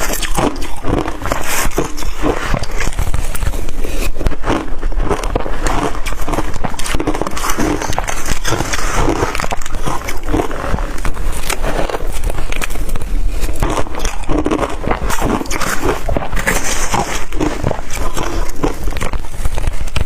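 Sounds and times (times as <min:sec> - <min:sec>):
crushed ice being chewed: 0:00.0 - 0:20.0.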